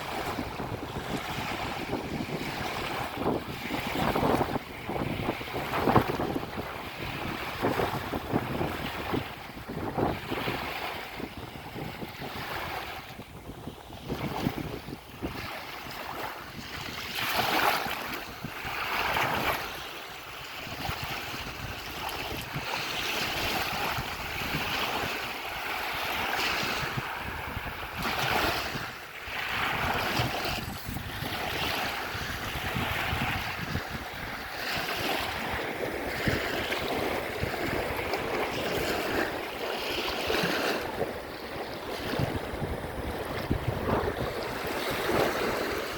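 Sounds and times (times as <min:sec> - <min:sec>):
waves breaking on shore: 0:00.0 - 0:45.9
wind rumbling on microphone: 0:00.0 - 0:45.9.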